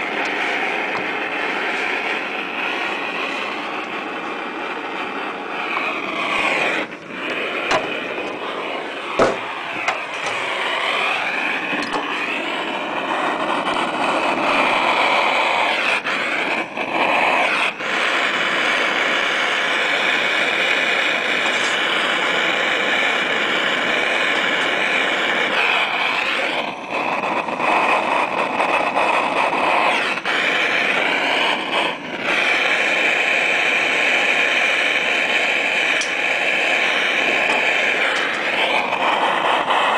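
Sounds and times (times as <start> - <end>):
gas burner hissing: 0.0 - 39.9.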